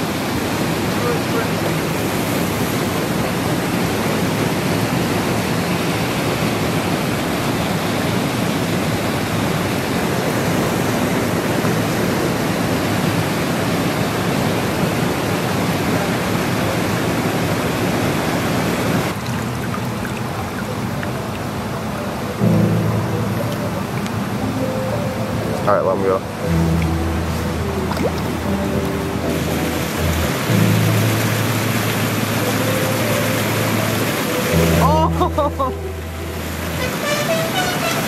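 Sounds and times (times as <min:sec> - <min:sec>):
river water rushing: 0:00.0 - 0:38.0.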